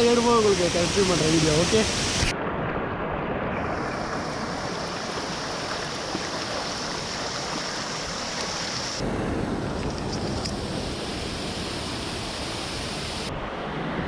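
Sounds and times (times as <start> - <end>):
small waterfall rushing: 0.0 - 2.3, 3.7 - 9.1, 9.8 - 14.0.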